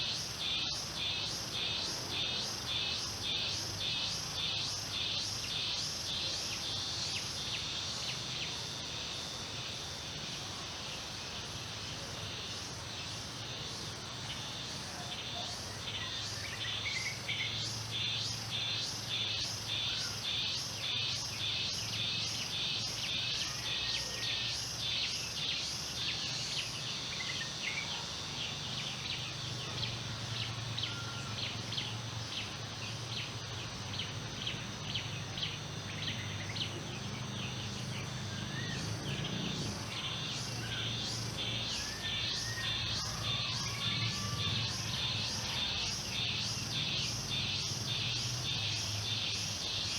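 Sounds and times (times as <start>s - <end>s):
insects chirping: 0.0s - 49.9s.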